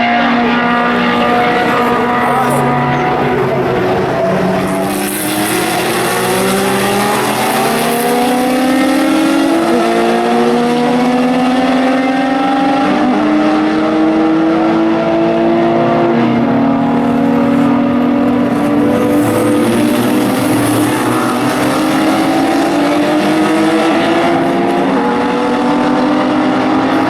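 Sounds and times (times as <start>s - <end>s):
racing car engines accelerating: 0.0s - 27.0s.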